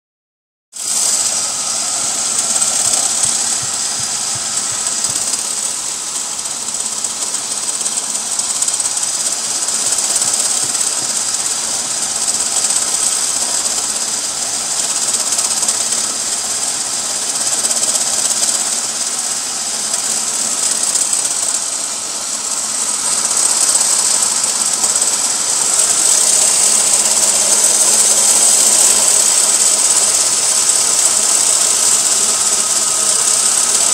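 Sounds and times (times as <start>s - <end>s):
fast rattle: 0.7s - 33.9s
car engine running: 0.8s - 33.9s
steady high hiss: 0.8s - 33.9s.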